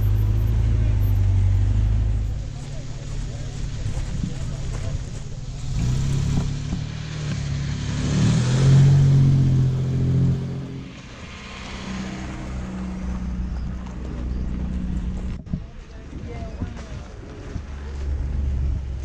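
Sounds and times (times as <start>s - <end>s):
car engine accelerating: 0.0s - 15.4s.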